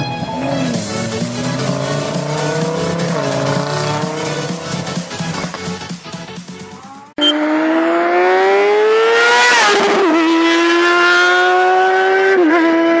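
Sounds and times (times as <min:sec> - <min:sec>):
engine accelerating hard: 0:00.0 - 0:13.0.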